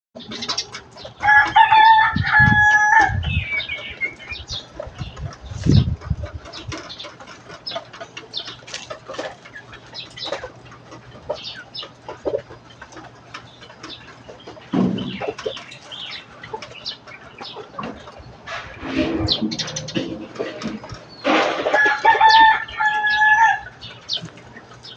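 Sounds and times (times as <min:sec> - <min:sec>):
chickens clucking: 0:00.2 - 0:24.9.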